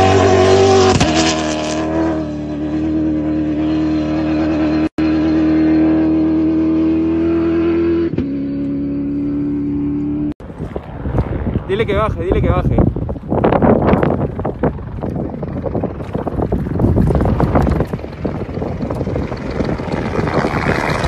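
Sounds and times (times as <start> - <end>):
car engine at high revs: 0.0 - 11.7, 13.1 - 21.0.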